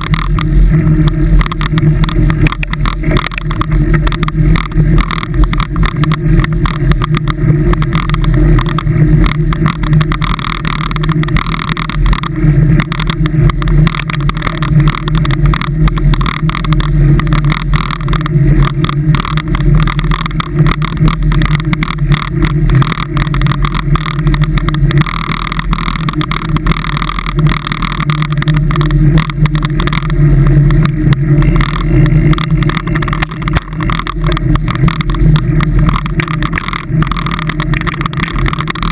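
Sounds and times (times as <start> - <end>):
vehicle driving on snowy road: 0.0 - 38.9.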